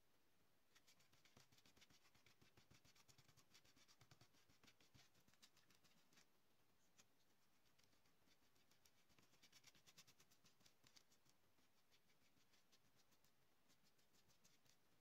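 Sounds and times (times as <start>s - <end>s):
bristle brush scrubbing glue: 0.7s - 6.3s, 6.9s - 15.0s.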